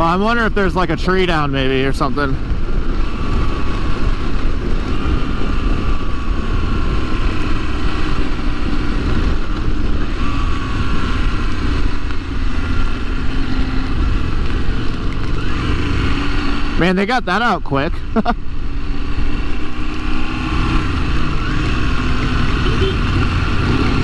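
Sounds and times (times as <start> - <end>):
wind rumble on microphone: 0.0 - 16.9, 18.3 - 24.0
motorcycle engine hum: 0.0 - 24.0.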